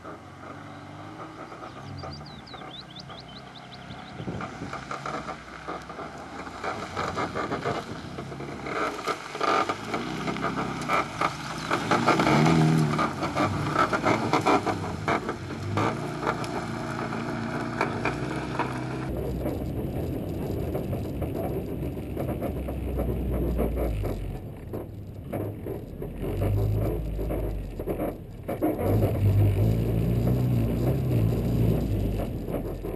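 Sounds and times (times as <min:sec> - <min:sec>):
car rattling and scraping: 0:00.0 - 0:32.9
dull low rumble: 0:00.0 - 0:32.9
rally car engine revving: 0:00.0 - 0:32.9.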